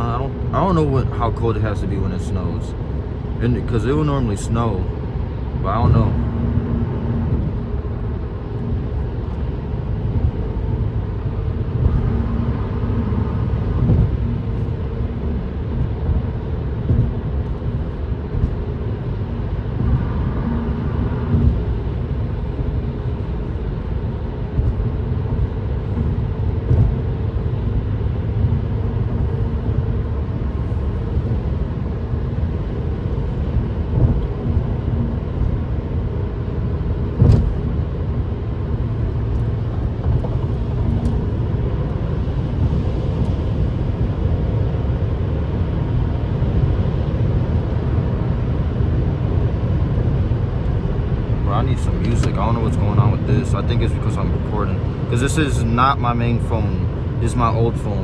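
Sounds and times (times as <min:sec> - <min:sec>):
car engine hum: 0:00.0 - 0:58.0
wet road noise under tyres: 0:02.6 - 0:58.0.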